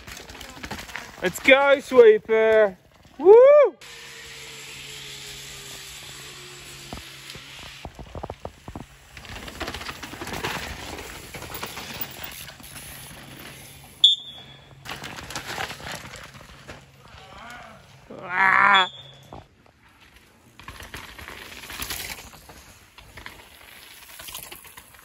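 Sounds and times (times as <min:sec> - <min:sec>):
bike tyres crunching over dirt: 0:00.0 - 0:03.6, 0:04.2 - 0:25.0.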